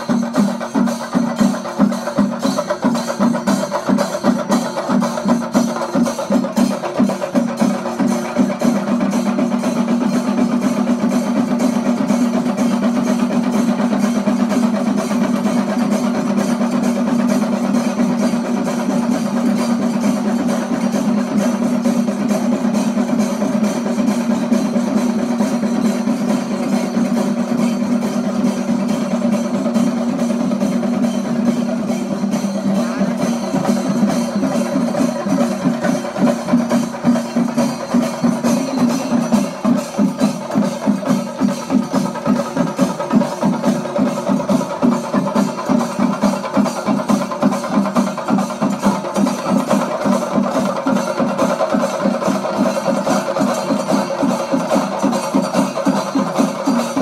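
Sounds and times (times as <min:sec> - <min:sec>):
drum ensemble playing fast: 0:00.0 - 0:57.0.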